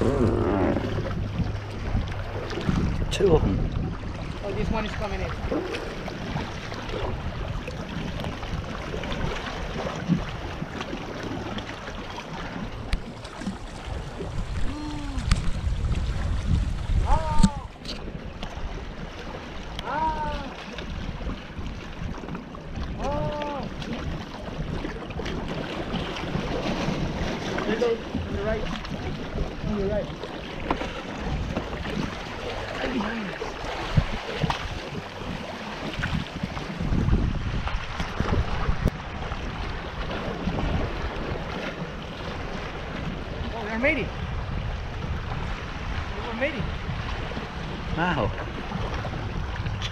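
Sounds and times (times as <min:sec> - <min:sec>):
water sloshing against rocks: 0:00.0 - 0:44.2
wind buffeting microphone: 0:00.0 - 0:49.9.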